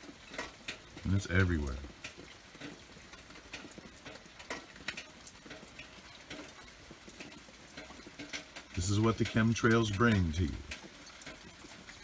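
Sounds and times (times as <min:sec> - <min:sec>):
raindrops tapping: 0:00.0 - 0:12.0.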